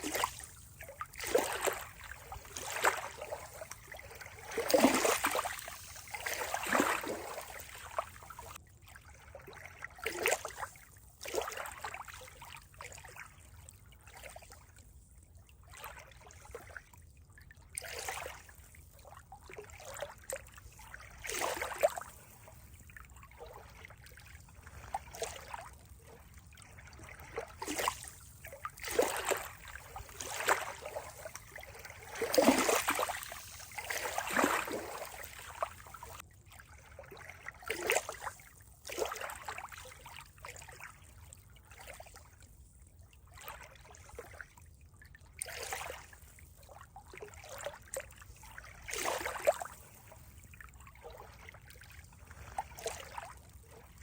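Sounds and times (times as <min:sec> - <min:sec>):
water splashing and trickling: 0:00.0 - 0:54.0.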